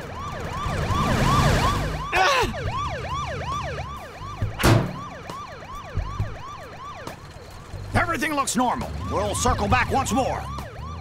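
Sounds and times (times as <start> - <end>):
police siren yelping: 0.0 - 11.0.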